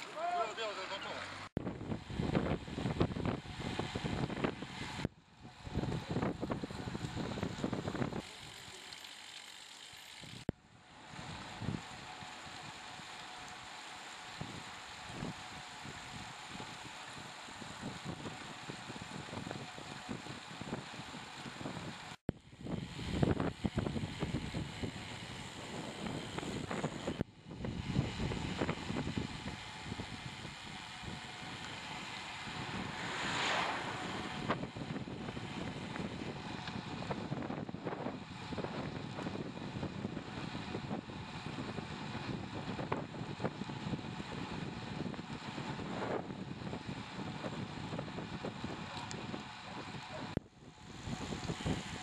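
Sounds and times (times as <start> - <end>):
road noise: 0.0 - 52.0
wind buffeting microphone: 1.6 - 8.2, 14.4 - 52.0.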